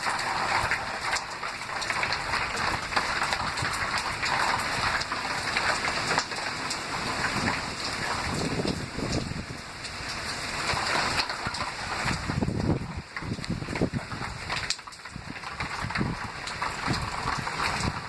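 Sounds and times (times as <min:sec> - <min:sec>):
heavy rain pattering: 0:00.0 - 0:18.0.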